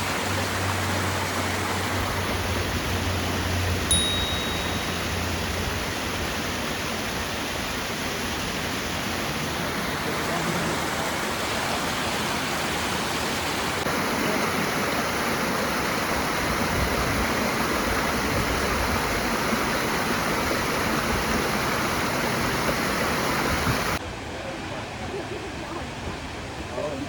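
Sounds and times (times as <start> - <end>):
waterfall rushing and splashing: 0.0 - 24.0.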